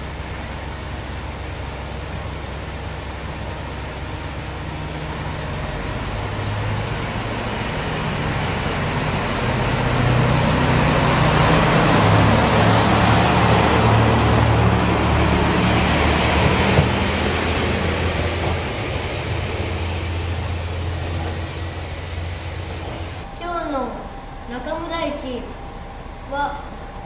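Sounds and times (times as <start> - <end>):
diesel railcar engine: 0.0 - 27.0.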